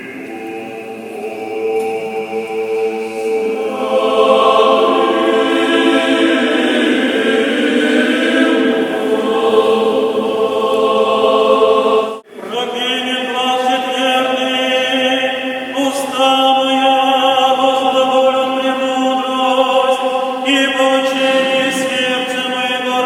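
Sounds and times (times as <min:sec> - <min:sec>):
choir singing a cappella chant: 0:00.0 - 0:23.0.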